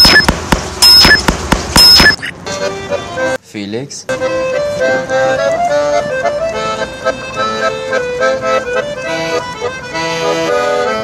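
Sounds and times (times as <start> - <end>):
accordion music: 1.8 - 11.0.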